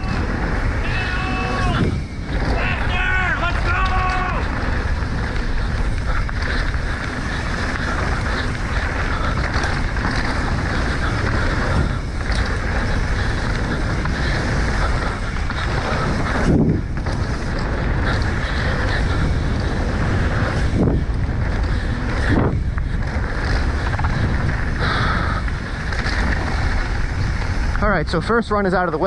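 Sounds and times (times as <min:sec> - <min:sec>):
bike tyres rumbling on dirt: 0:00.0 - 0:29.0
wind buffeting microphone: 0:00.0 - 0:29.0.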